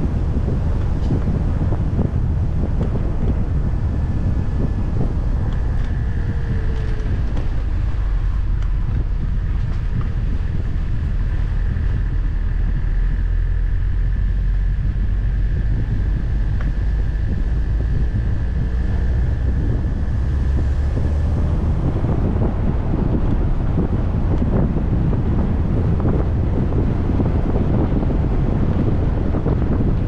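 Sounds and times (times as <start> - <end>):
road rumble: 0.0 - 30.0
wind noise on microphone: 0.0 - 30.0.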